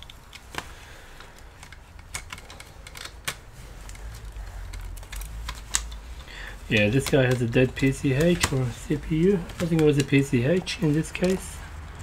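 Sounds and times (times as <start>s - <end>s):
plastic parts clicking and tapping: 0.0s - 12.0s.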